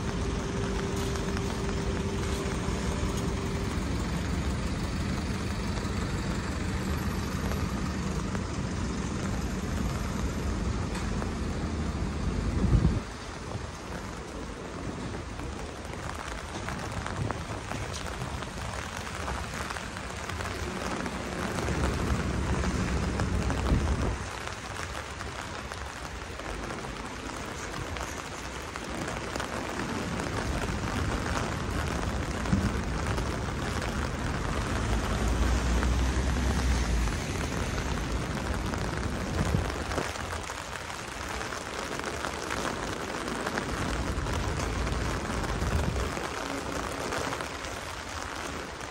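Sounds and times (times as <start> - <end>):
rain on wet pavement: 0.0 - 48.9.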